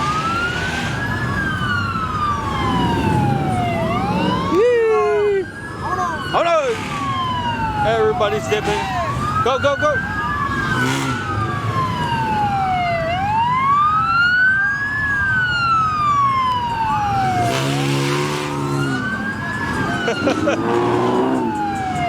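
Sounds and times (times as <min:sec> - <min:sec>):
car noise: 0:00.0 - 0:22.0
police sirens wailing: 0:00.0 - 0:22.0.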